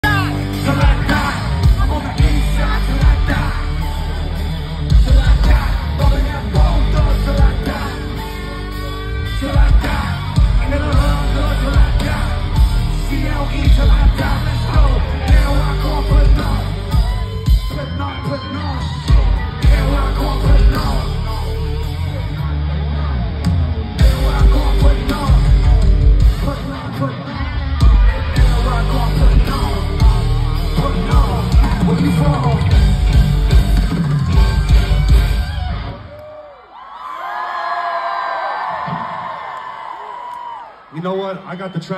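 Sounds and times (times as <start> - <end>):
heavy bass beat: 0.0 - 27.1, 27.7 - 35.8
vocalist singing and shouting: 0.0 - 34.8
live rock band playing: 0.0 - 36.2.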